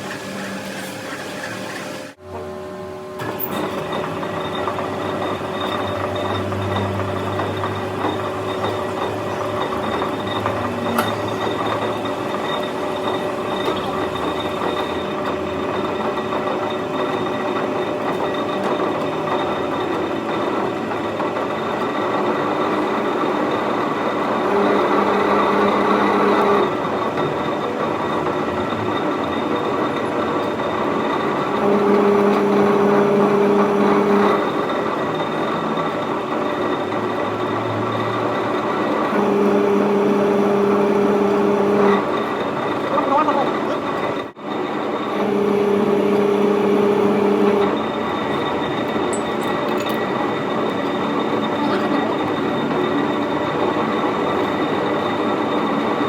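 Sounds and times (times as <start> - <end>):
workshop machine whining: 0.0 - 56.0.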